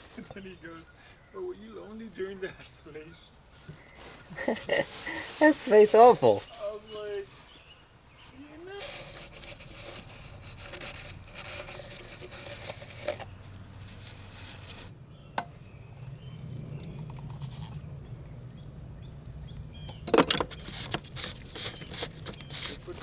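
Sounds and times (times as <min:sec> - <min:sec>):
rustling handling noises: 0:00.0 - 0:23.0.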